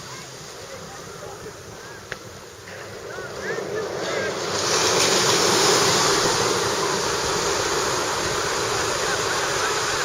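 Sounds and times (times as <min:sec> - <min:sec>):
ocean surf on beach: 0:00.0 - 0:10.0.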